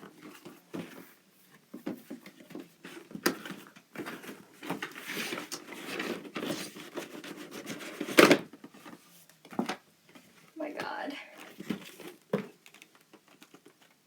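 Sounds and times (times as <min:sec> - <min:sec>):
cardboard and plastic rustling: 0:00.0 - 0:14.0.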